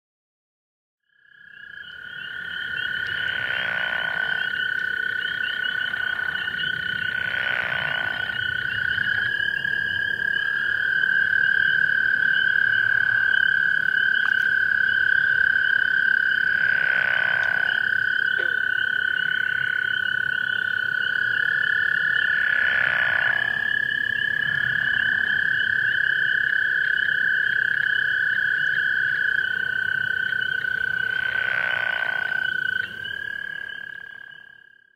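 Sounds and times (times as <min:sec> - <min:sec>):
chorus of frog trills: 0:01.2 - 0:34.8
frogs rattling snore calls: 0:01.4 - 0:34.7.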